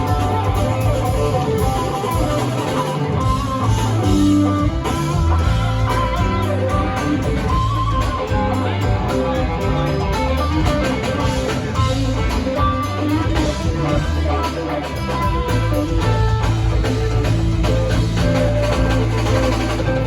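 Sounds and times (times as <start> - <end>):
electric guitar line: 0.0 - 20.0
live band playing: 0.0 - 20.0
steady bass: 0.0 - 20.0.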